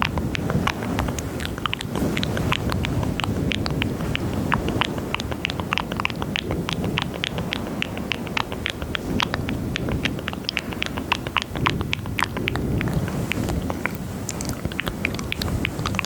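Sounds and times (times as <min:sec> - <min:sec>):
wet mouth clicks and smacks: 0:00.0 - 0:16.0.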